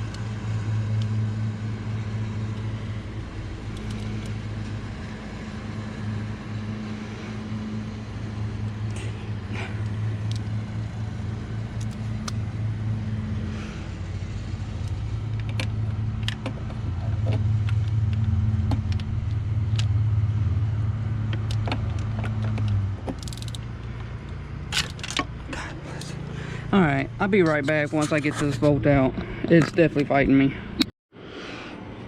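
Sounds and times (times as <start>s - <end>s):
low motor hum: 0.0s - 30.9s.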